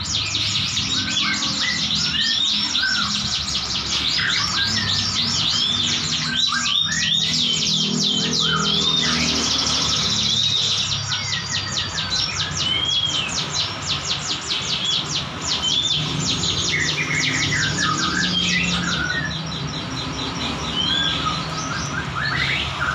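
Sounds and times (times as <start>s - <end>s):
songbird singing rapid trills: 0.0s - 22.9s.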